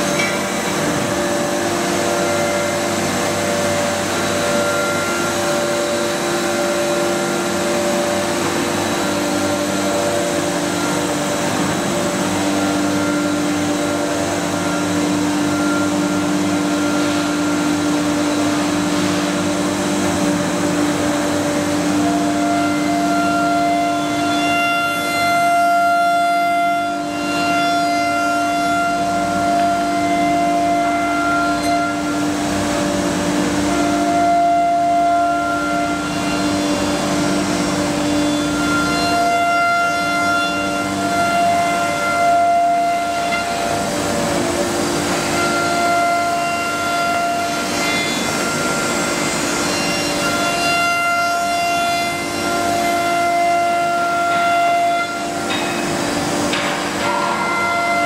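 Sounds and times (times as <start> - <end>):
router spindle whine: 0.0 - 27.6, 28.3 - 58.0.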